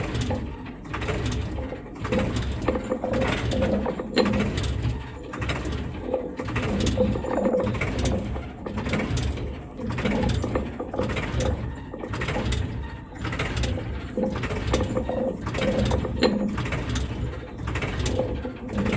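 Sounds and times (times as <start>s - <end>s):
toy motor and gears rattling: 0.0s - 18.9s.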